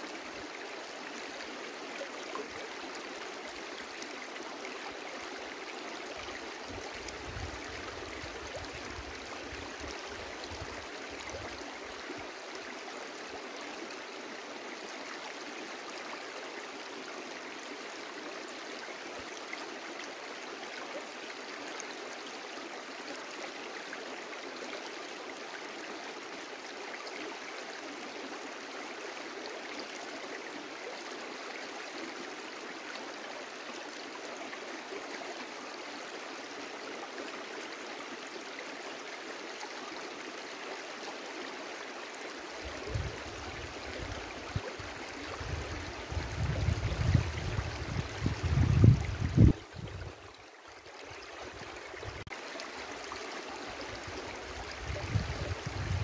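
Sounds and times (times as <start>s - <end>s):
brook flowing water: 0.0s - 56.0s.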